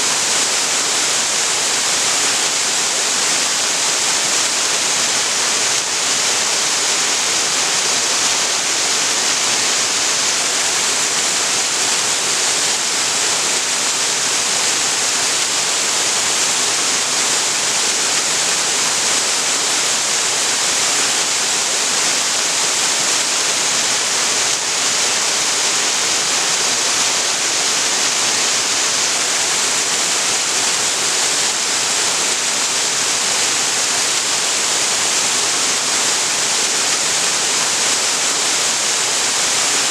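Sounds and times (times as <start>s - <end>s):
waterfall splashing: 0.1s - 39.9s.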